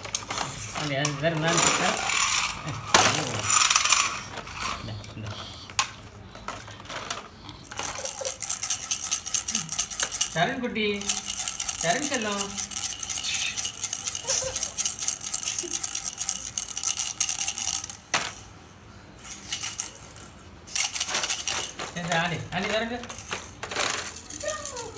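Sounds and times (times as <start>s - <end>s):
small hard objects rattling: 0.0s - 4.8s, 6.5s - 10.4s, 11.0s - 18.2s, 19.3s - 24.9s.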